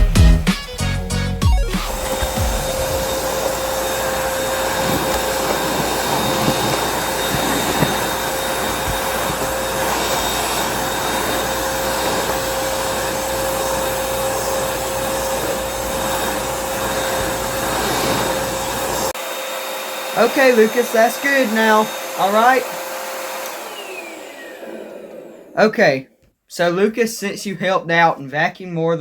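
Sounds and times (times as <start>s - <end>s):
vacuum cleaner running: 1.4s - 25.7s.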